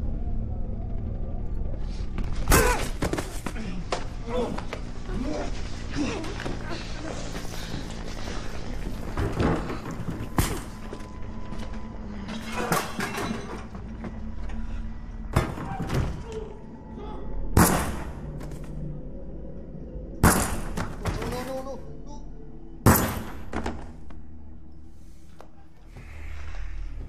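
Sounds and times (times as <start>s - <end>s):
low steady drone: 0.0s - 27.0s.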